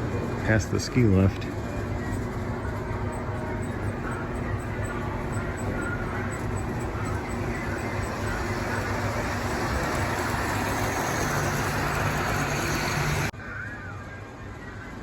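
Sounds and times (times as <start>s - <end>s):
model train wheels and motor rumbling: 0.0s - 13.7s.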